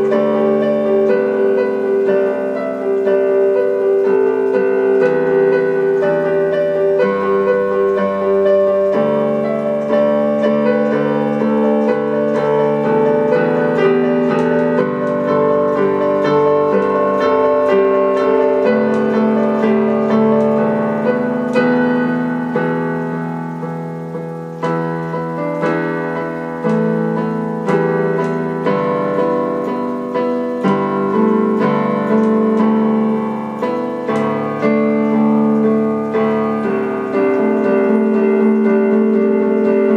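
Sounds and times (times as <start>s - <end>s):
background piano music: 0.0s - 39.9s.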